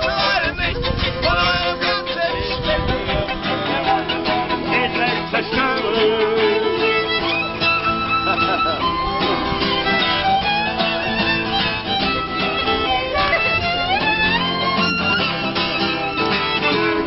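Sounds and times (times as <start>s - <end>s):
violin melody with sliding notes: 0.0s - 17.0s.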